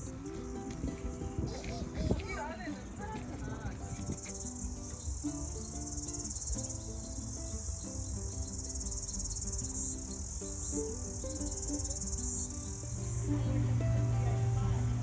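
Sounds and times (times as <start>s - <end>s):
insects chirring: 0.0s - 15.0s
quiet background music: 0.0s - 15.0s.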